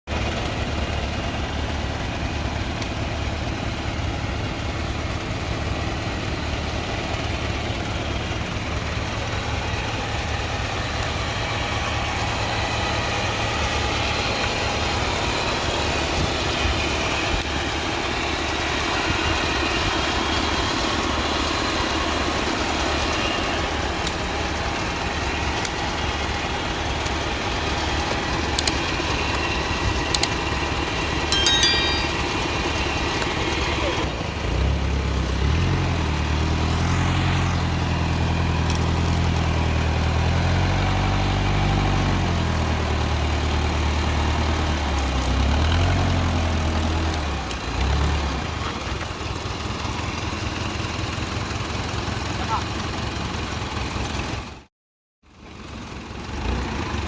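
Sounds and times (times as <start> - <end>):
tractor engine rumbling: 0.1 - 54.5.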